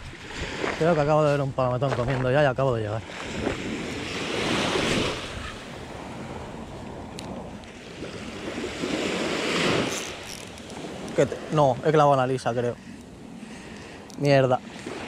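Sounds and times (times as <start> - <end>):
wind rushing over microphone: 0.0 - 13.4
small waves washing onto beach: 0.0 - 15.0.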